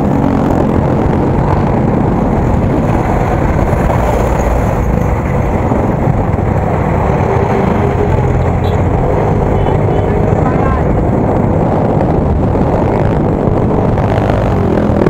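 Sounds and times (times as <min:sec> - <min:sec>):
motorcycle engine: 0:00.0 - 0:15.0
surrounding traffic: 0:00.0 - 0:15.0
wind buffeting microphone: 0:00.0 - 0:15.0.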